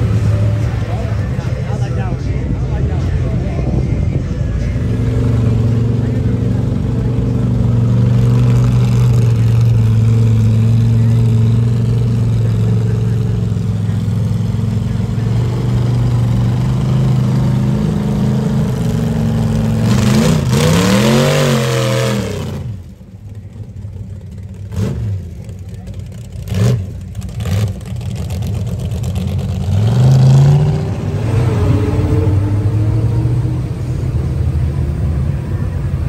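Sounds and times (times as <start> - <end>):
mud buggy engine revving: 0.0 - 36.0.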